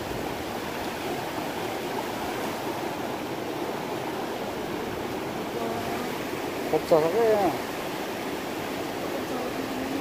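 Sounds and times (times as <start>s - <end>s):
river rushing: 0.0s - 10.0s.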